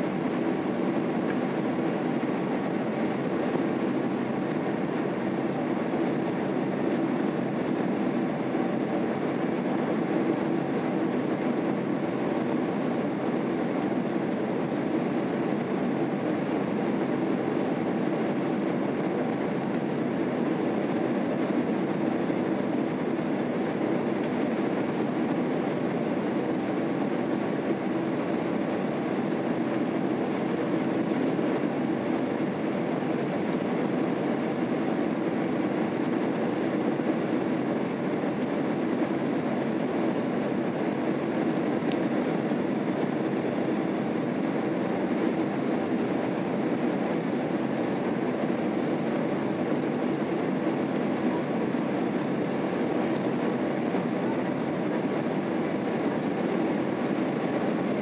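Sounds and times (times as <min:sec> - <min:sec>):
airplane cabin engine and airflow noise: 0:00.0 - 0:58.0.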